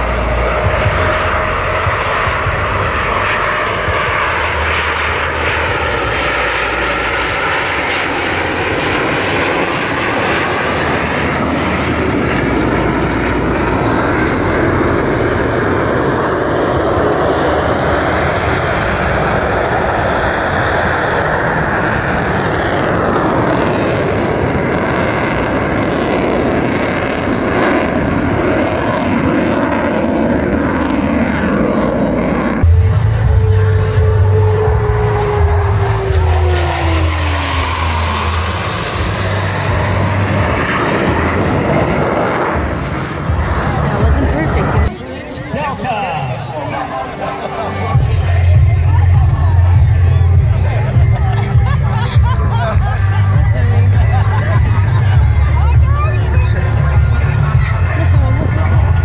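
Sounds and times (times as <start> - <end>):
jet roar: 0.0 - 59.0.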